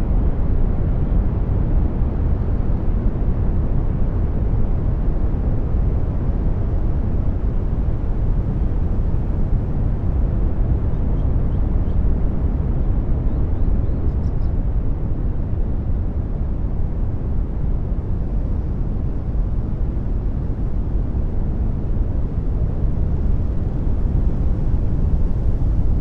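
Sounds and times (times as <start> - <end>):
brown noise rumbling hiss: 0.0 - 26.0.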